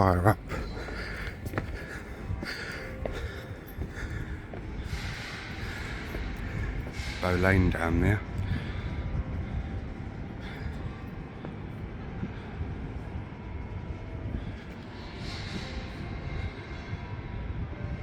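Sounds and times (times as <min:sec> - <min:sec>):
city traffic rumble: 0:00.0 - 0:18.0
wind buffeting microphone: 0:00.0 - 0:18.0.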